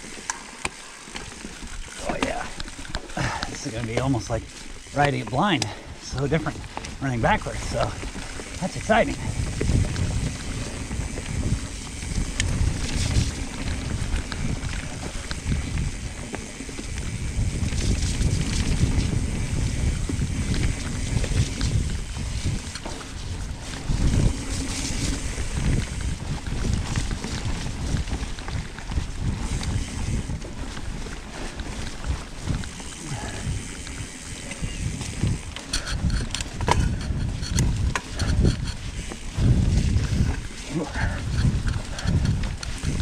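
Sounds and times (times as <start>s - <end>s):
bike clicks and rattles: 0.0s - 43.0s
bike tyre noise: 0.0s - 43.0s
wind buffeting microphone: 1.3s - 43.0s.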